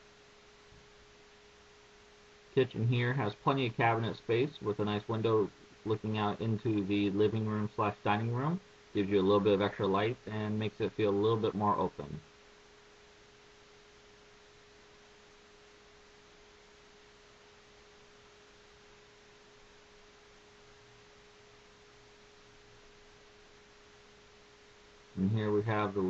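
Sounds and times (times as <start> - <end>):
faint hiss: 0.0 - 26.0
steady single-pitched hum: 0.0 - 26.0.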